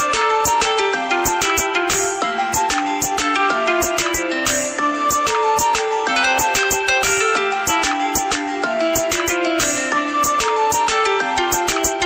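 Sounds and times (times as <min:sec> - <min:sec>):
melody over steady beat: 0:00.0 - 0:12.0.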